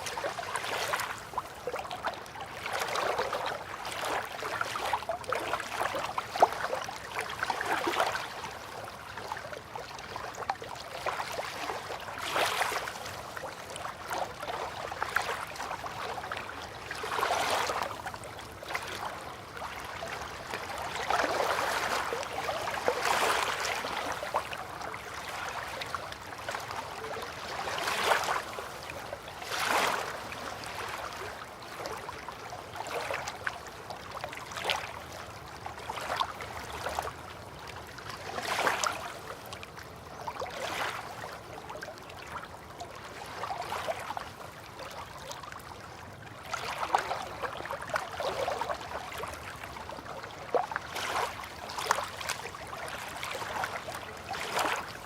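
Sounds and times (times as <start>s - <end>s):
river water lapping: 0.0s - 55.0s.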